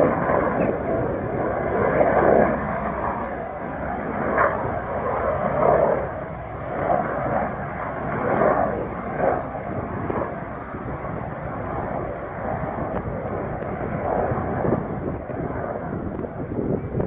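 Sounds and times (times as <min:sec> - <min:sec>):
helicopter rotors and engines: 0:00.0 - 0:17.0.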